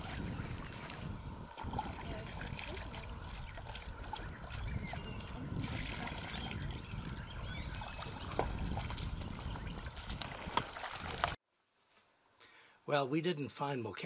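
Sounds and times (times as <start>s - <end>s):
water trickling and splashing: 0.0s - 11.4s.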